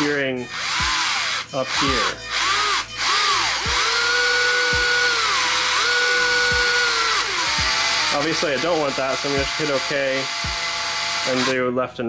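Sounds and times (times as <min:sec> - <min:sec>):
electric motors whining: 0:00.0 - 0:11.6.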